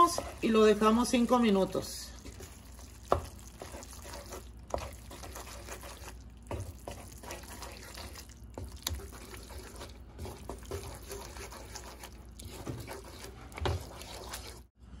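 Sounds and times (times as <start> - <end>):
wet sloppy stirring: 0.0 - 14.8.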